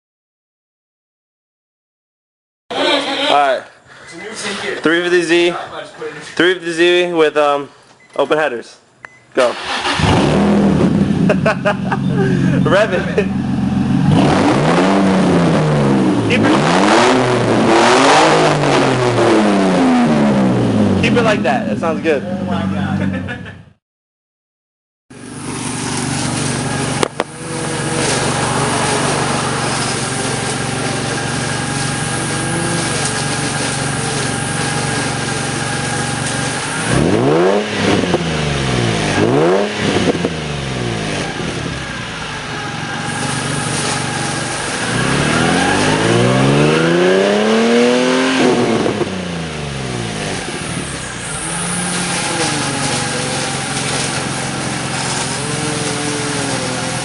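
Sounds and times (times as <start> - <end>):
car engine idling and revving: 9.5 - 23.4, 25.1 - 57.0.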